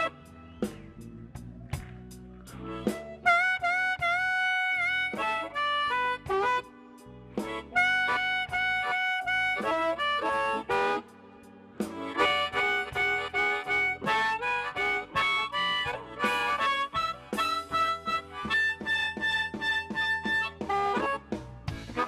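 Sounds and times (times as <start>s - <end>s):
blues harmonica: 0.0s - 22.0s.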